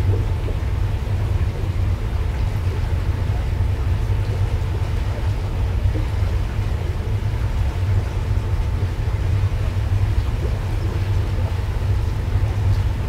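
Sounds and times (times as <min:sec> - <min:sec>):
faint steady hum: 0:00.0 - 0:13.0
ship engine low rumble: 0:00.0 - 0:13.0.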